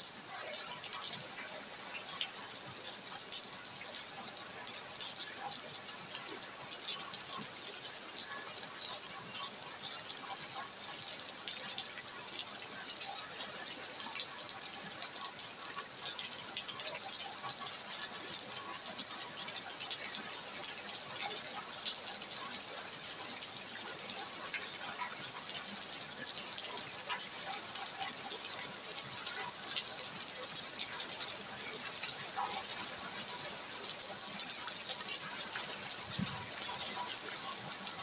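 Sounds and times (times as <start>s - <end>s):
steady rain hiss: 0.0s - 38.0s
raindrop ticks and splashes: 0.1s - 38.0s.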